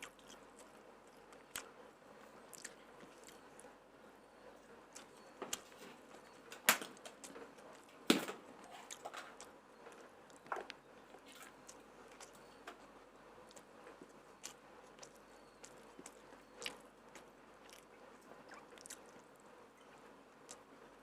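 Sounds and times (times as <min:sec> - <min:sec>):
quiet chewing: 0:00.0 - 0:21.0.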